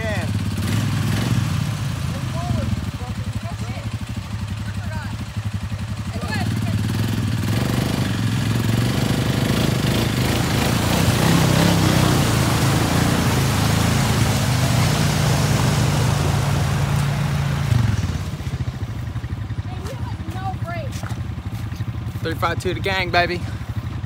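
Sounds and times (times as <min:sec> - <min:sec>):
quad engine running under load: 0:00.0 - 0:24.0
tyres splashing through mud: 0:00.0 - 0:24.0.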